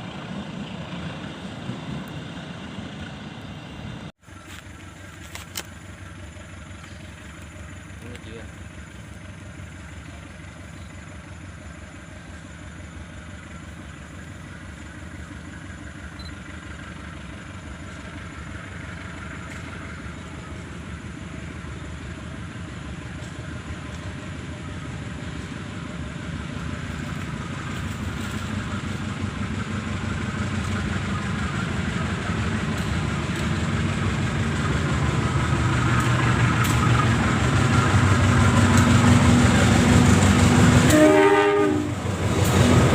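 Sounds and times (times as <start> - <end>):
diesel locomotive engine: 0.0 - 42.9.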